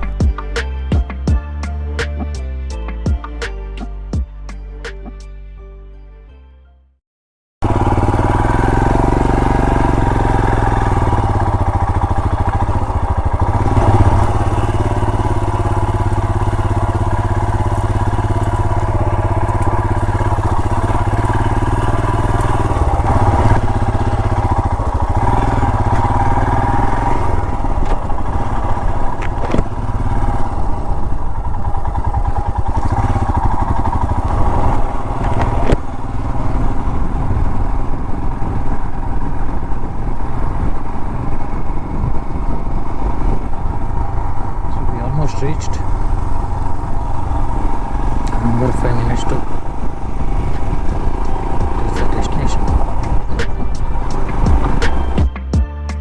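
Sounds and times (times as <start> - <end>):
motorcycle engine rumbling: 0.0 - 5.3, 7.6 - 55.6.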